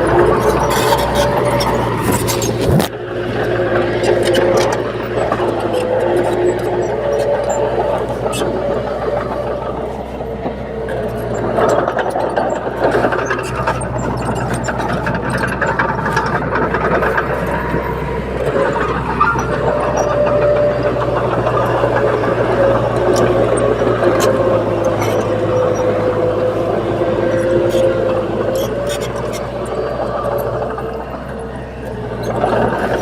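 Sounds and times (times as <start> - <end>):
bulldozer diesel engine running: 0.0 - 33.0
clanking and clicking: 0.0 - 33.0
whining tone: 0.0 - 33.0.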